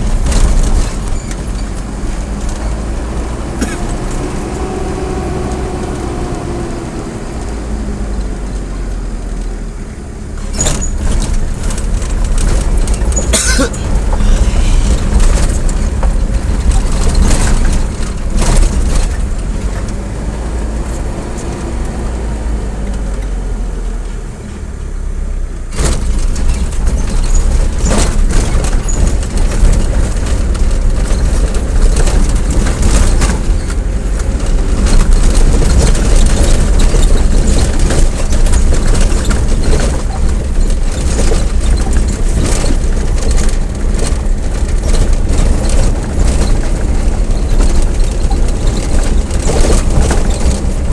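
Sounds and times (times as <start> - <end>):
vehicle engine and road noise: 0.0 - 50.9.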